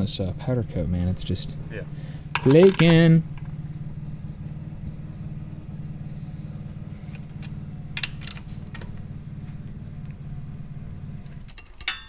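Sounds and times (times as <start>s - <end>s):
engine running with low drone: 0.0s - 11.7s.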